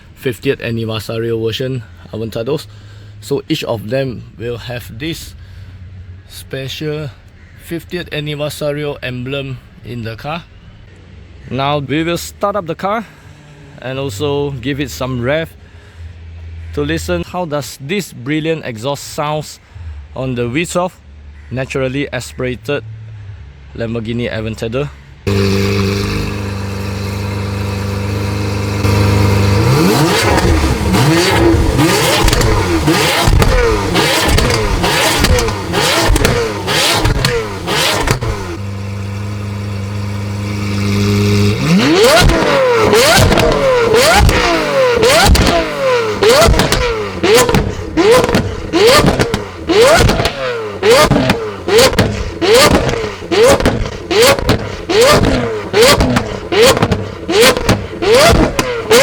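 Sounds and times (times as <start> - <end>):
sports car engine idling and revving: 0.0 - 17.9, 22.4 - 59.0.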